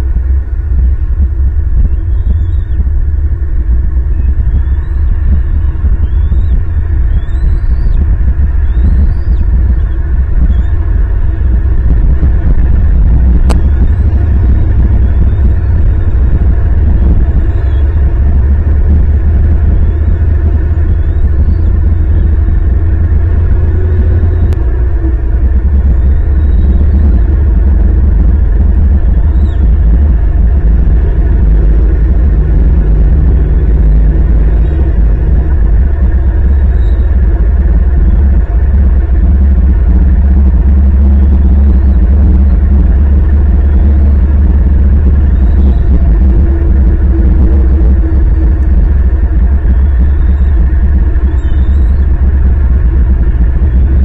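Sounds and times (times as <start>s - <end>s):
deep rumble: 0.0s - 54.0s.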